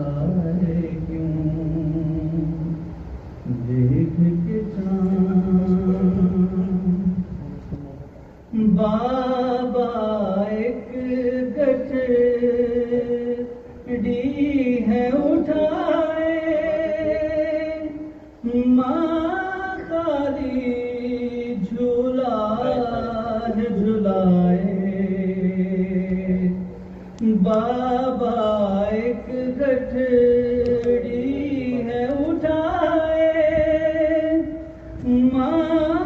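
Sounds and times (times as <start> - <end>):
man chanting a lament: 3.5 - 36.0.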